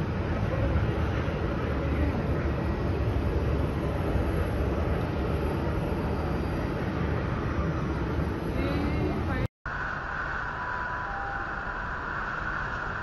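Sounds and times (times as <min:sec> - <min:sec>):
low outdoor rumble and hiss: 0:00.0 - 0:13.0.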